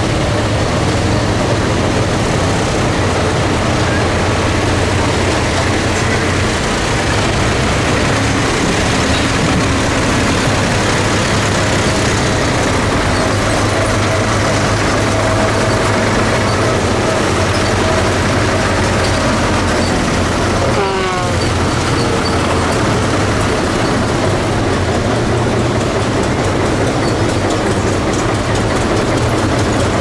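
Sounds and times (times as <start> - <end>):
tractor engines running: 0.0 - 30.0.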